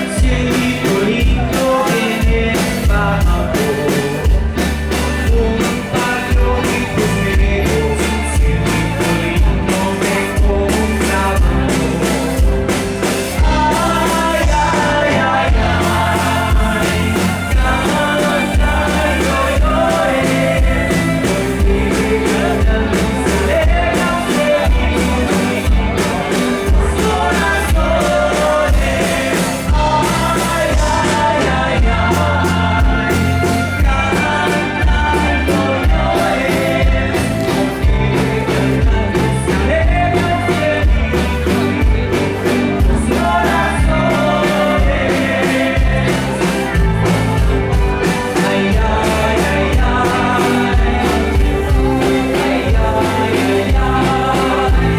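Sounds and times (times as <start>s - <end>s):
drum beats: 0.0s - 54.9s
live rock band playing: 0.0s - 54.9s
person singing: 0.0s - 54.9s.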